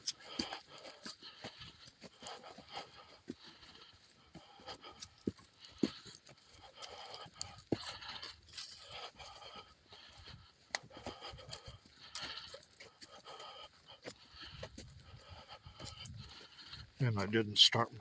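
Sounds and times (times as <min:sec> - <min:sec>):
man breathing heavily: 0:00.0 - 0:17.2
footsteps on woodland trail: 0:00.0 - 0:18.0.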